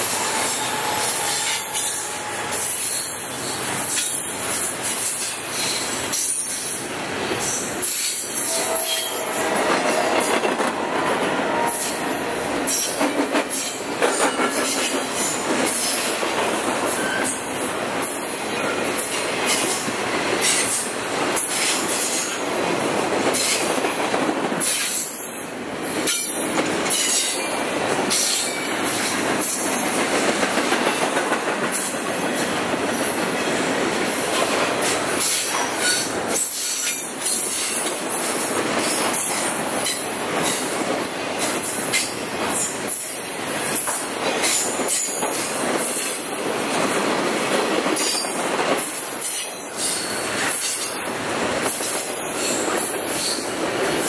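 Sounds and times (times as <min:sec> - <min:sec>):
train passing at speed: 0:00.0 - 0:54.0.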